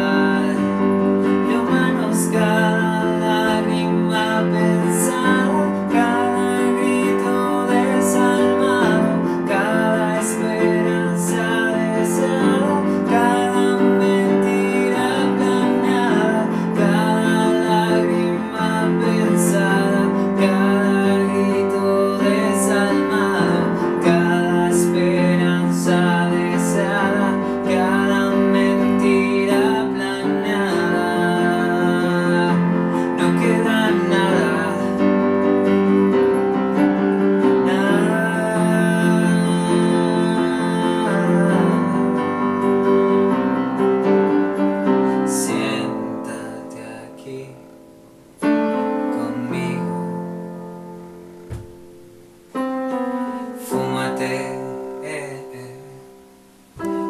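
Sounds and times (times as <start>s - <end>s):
man singing: 0.0s - 50.7s, 53.4s - 56.2s
electronic keyboard song: 0.0s - 57.0s.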